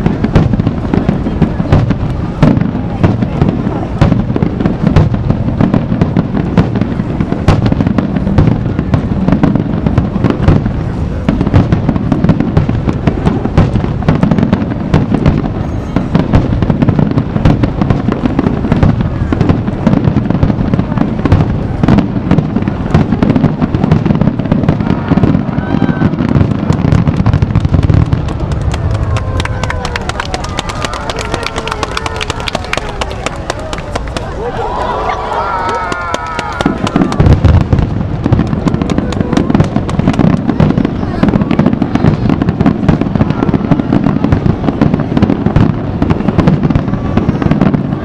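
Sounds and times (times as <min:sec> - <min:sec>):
fireworks booming: 0:00.0 - 0:48.0
fireworks cracks and crackles: 0:00.0 - 0:48.0.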